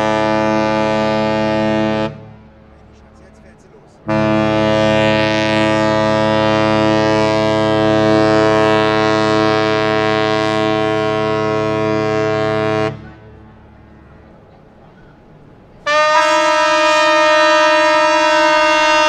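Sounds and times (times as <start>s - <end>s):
ship's horn blast: 0.0s - 13.3s, 15.8s - 19.0s.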